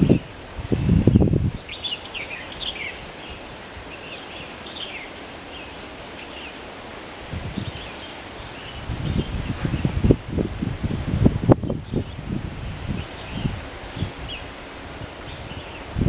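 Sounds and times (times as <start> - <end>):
wind rumble on microphone: 0.0 - 4.2, 7.1 - 16.0
small birds chirping: 0.0 - 16.0
wind rustling tree leaves: 0.0 - 16.0.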